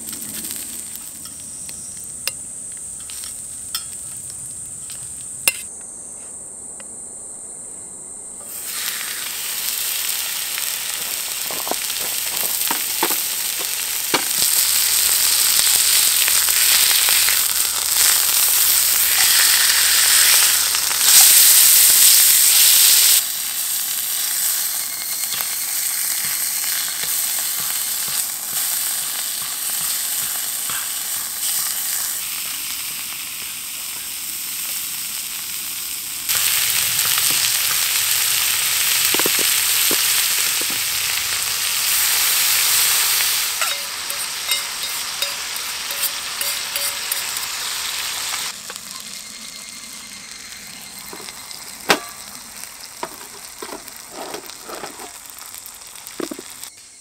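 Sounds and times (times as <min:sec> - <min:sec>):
food sizzling in a pan: 0:00.0 - 0:04.2, 0:08.4 - 0:56.8.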